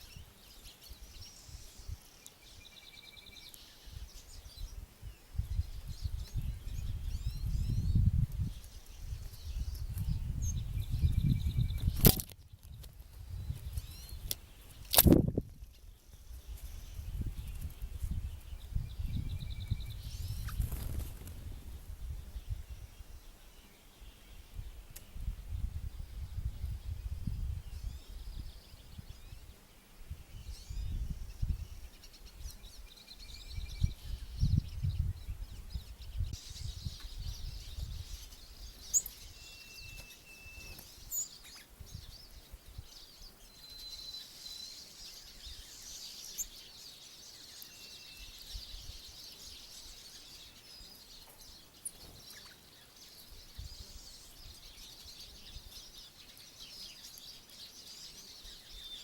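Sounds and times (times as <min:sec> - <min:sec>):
wind rumble on microphone: 0:00.0 - 0:03.2, 0:03.8 - 0:23.4, 0:24.0 - 0:44.0, 0:48.1 - 0:50.9, 0:53.3 - 0:56.1
songbirds chirping: 0:00.0 - 0:59.0.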